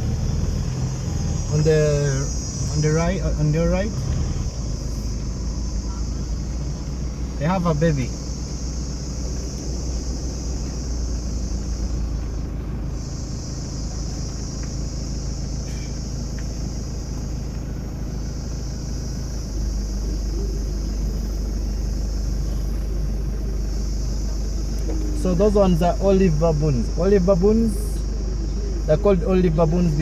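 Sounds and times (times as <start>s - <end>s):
car engine and road noise: 0.0s - 30.0s
forest insects buzzing: 0.0s - 30.0s.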